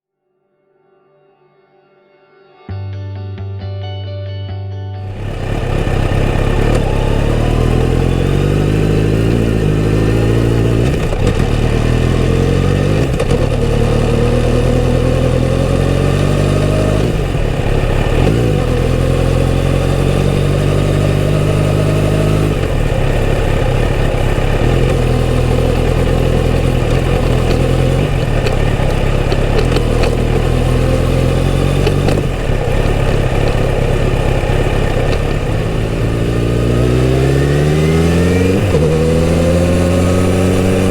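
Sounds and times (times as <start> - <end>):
motorcycle engine accelerating: 5.0 - 40.9.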